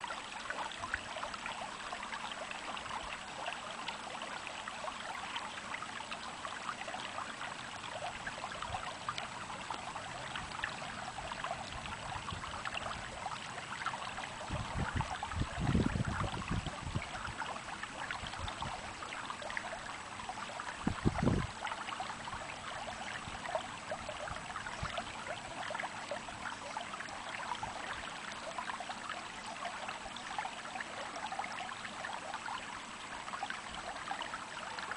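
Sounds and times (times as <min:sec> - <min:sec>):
stream babbling: 0:00.0 - 0:34.9.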